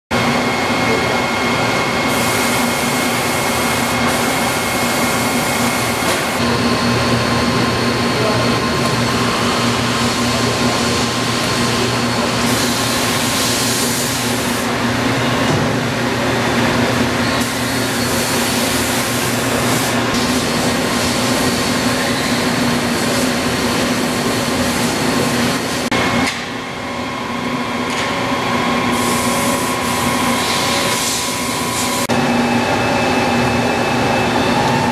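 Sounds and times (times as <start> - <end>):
machine motor hum and whine: 0.2 - 34.9.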